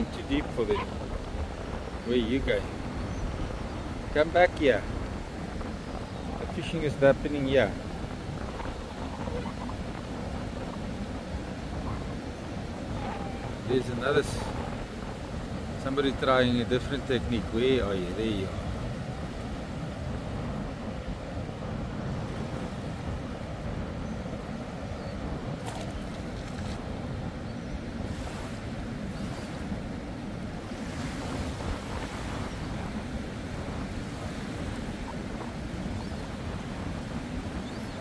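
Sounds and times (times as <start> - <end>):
ocean surf washing onto beach: 0.0 - 38.0
wind buffeting microphone: 0.0 - 38.0.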